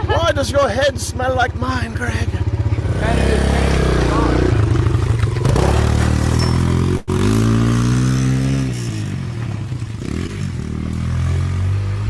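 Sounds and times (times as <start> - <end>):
dirt bike engine revving: 1.5 - 12.0.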